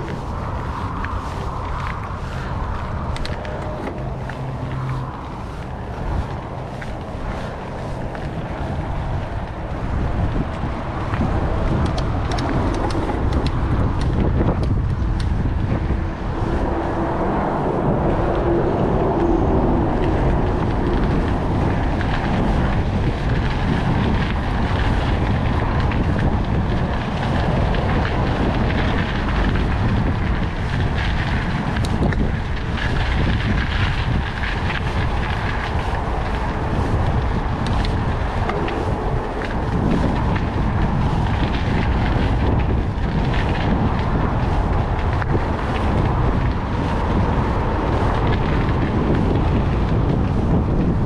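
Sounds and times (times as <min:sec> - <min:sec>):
bike tyres rolling on pavement: 0:00.0 - 0:51.0
wind rushing over microphone: 0:00.0 - 0:51.0.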